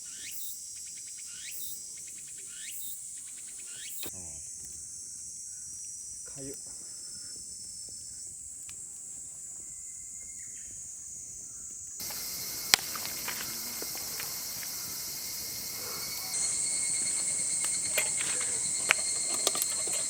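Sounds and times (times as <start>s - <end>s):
high-pitched night insects chorus: 0.0s - 20.0s.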